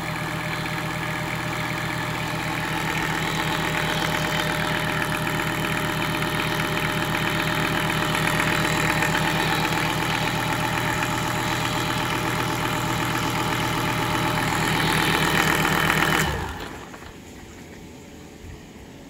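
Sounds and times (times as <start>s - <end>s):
diesel engine idling: 0.0s - 17.8s
engine running down to a stop: 0.0s - 18.8s.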